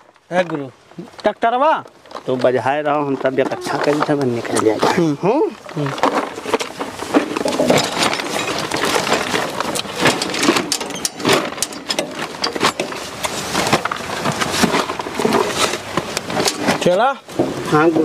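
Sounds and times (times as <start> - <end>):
noisy hiss: 0.0 - 18.0
mechanical clattering and knocking: 3.1 - 18.0.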